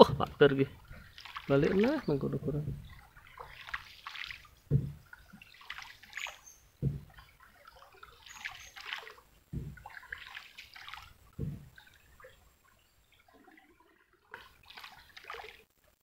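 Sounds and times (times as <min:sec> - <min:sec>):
river water sloshing and trickling: 0:00.0 - 0:15.9.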